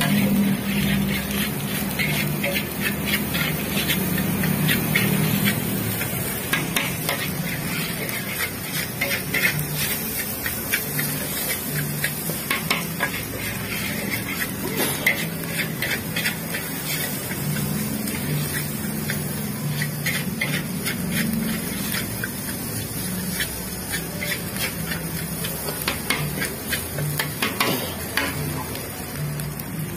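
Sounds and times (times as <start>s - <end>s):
metal spatula scraping a wok: 0.0s - 28.7s
rice sizzling: 0.0s - 29.9s.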